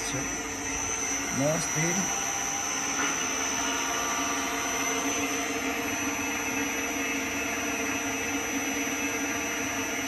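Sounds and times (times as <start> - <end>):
mixer motor humming with high whine: 0.0 - 10.0.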